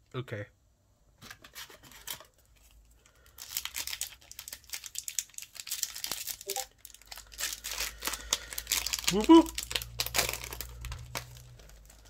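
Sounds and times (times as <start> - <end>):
foil pack crinkling: 1.4 - 12.0.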